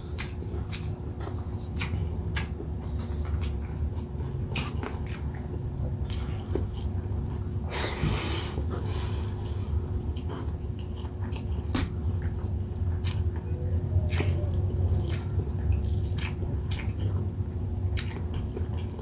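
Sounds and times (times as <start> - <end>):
chewing and mouth smacks: 0.0 - 7.7, 9.8 - 19.0.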